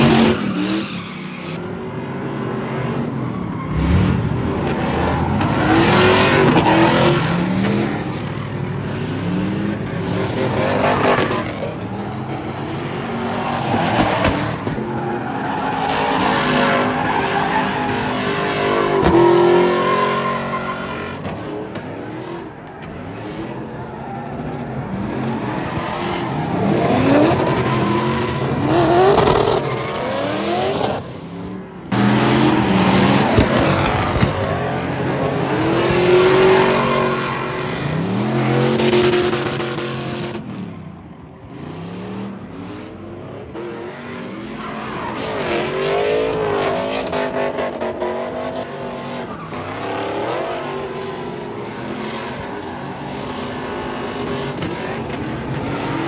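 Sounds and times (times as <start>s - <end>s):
tires spinning and squealing: 0.0s - 56.0s
truck engine revving: 2.5s - 56.0s.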